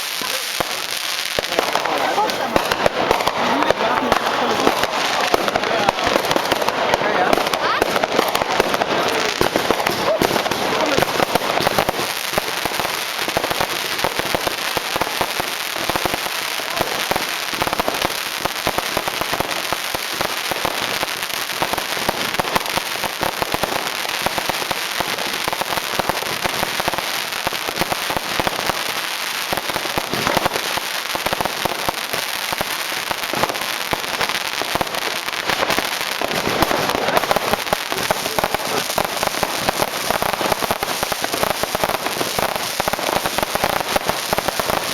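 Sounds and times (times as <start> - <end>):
fireworks and firecrackers popping: 0.0 - 44.9.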